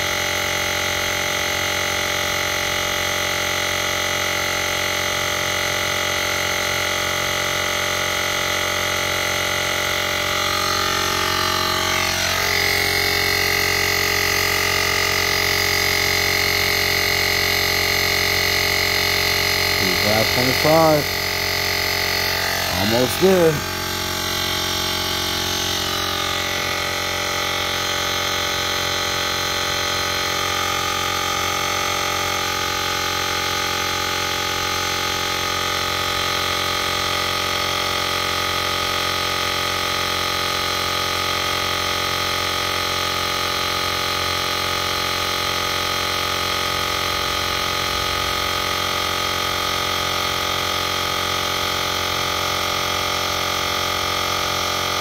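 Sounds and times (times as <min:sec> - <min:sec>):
air compressor running: 0:00.0 - 0:55.0.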